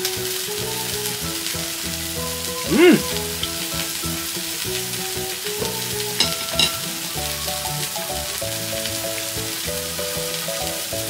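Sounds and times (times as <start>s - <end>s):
food sizzling on hot plate: 0.0s - 11.0s
light background music: 0.0s - 11.0s.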